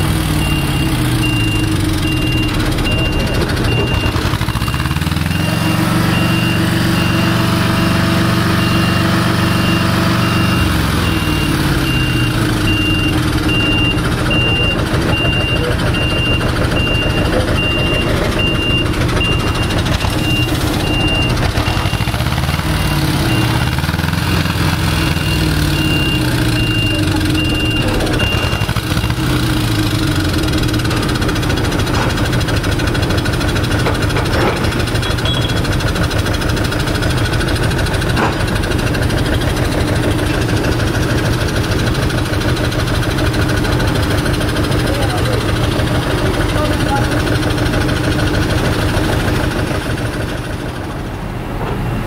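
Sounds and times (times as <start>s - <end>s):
reversing alarm beeping: 0.0s - 47.9s
heavy vehicle engine running: 0.0s - 52.0s.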